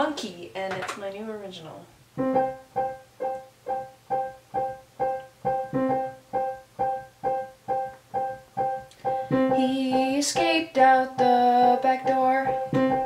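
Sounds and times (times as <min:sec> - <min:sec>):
piano chords: 0:02.2 - 0:13.0.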